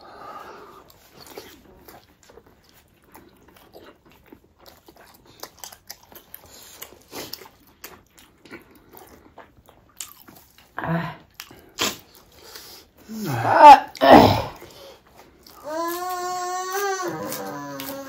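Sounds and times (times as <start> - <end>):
wet smacking and chewing: 0.7 - 13.1, 14.6 - 18.0.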